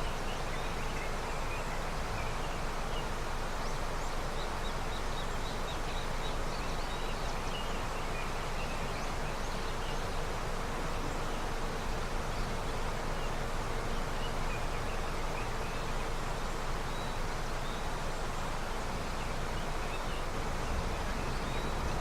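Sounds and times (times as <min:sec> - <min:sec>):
river flowing: 0:00.0 - 0:22.0.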